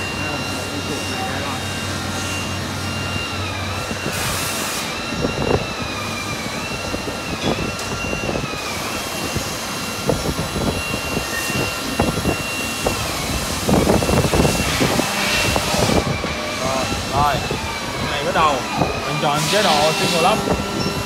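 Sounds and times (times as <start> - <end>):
high machine whine: 0.0 - 21.0
machinery humming: 0.0 - 21.0.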